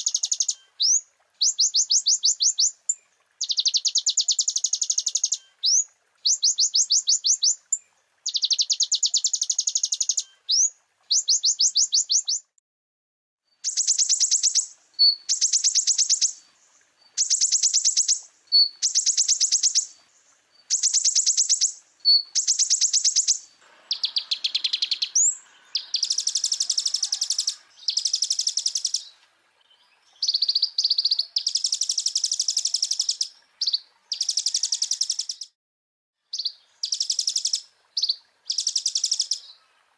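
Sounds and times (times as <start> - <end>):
other birds singing: 0.0 - 12.5, 13.5 - 35.5, 36.3 - 39.9
sunbird trilling song: 0.0 - 12.6, 13.5 - 35.6, 36.3 - 39.8.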